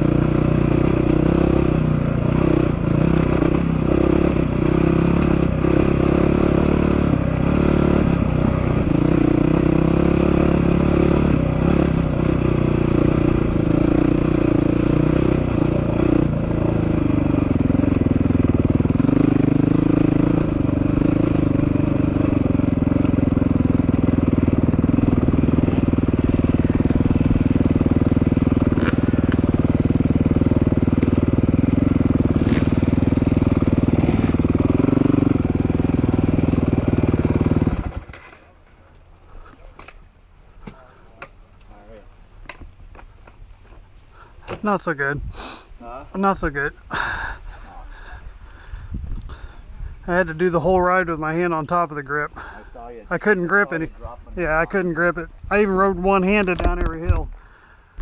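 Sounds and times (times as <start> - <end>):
dirt bike engine running: 0.0 - 41.4, 46.2 - 58.0.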